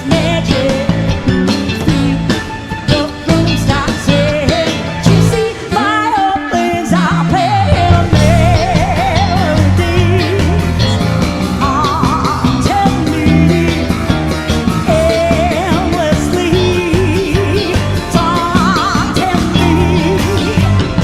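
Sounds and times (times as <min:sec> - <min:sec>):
busy electric bass line: 0:00.0 - 0:05.8, 0:06.7 - 0:21.0
woman singing with vibrato: 0:00.0 - 0:11.0, 0:11.6 - 0:14.2, 0:14.8 - 0:21.0
jazz-fusion band music: 0:00.0 - 0:21.0.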